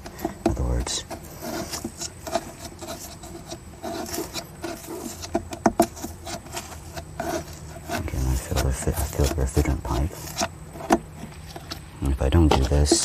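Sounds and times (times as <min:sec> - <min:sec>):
tool scraping plastic liner: 0:00.0 - 0:13.0.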